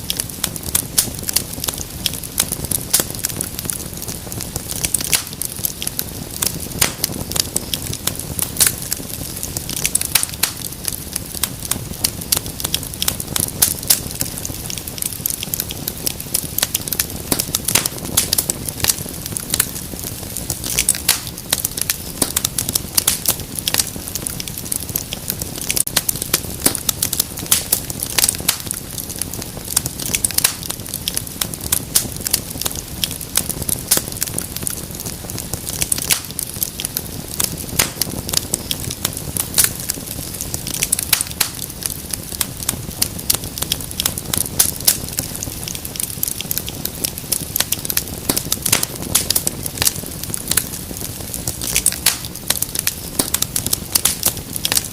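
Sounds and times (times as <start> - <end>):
low fire rumble: 0.0 - 54.9
wood fire crackling: 0.0 - 54.9.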